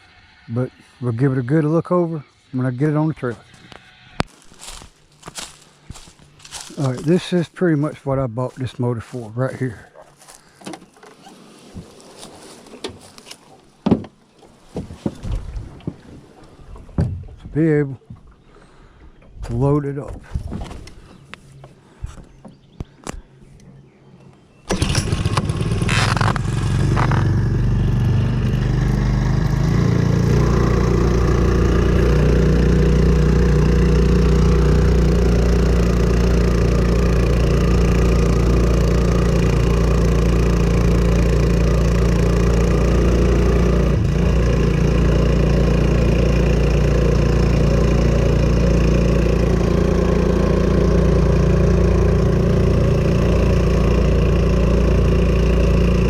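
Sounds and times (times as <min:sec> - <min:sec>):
outboard motor running: 0:00.0 - 0:23.8, 0:24.6 - 0:56.0.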